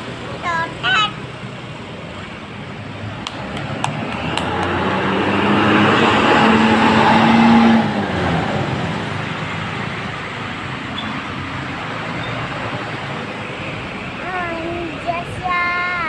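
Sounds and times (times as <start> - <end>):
bus driving past: 0.0 - 16.0.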